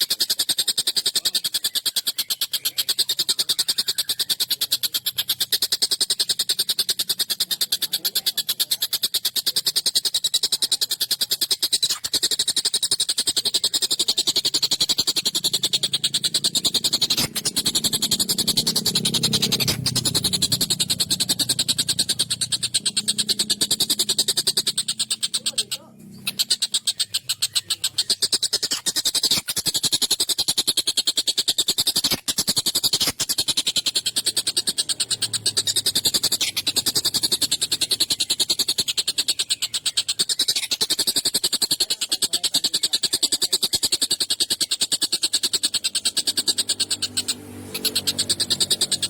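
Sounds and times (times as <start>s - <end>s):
kingfisher rattling trill: 0.0s - 49.0s.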